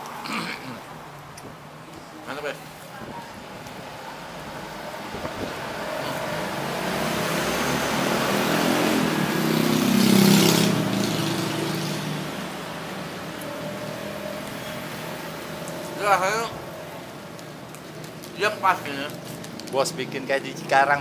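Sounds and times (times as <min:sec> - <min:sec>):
motor vehicle passing: 0:02.4 - 0:20.9.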